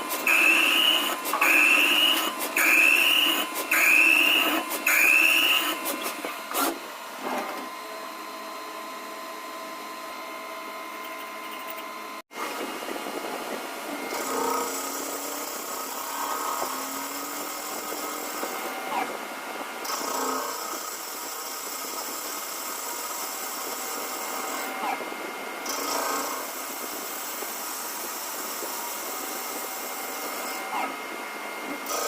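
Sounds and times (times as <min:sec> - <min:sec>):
cnc machine whining: 0:00.0 - 0:32.0.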